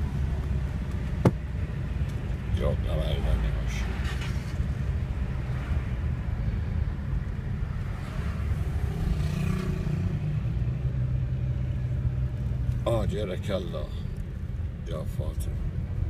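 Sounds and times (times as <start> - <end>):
car road noise from inside: 0.0 - 16.0.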